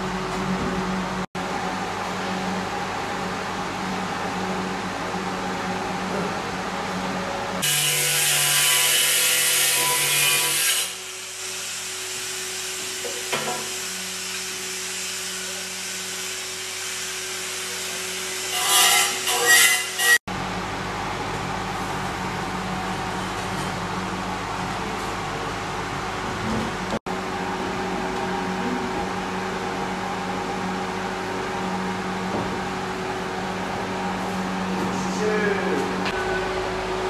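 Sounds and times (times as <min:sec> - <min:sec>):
fan-like hum: 0:00.0 - 0:37.0.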